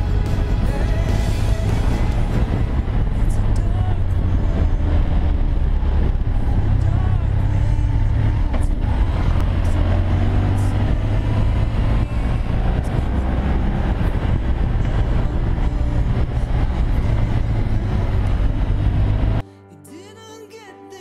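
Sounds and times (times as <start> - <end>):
motorcycle engine running: 0.0 - 19.4
wind rush over microphone: 0.0 - 19.4.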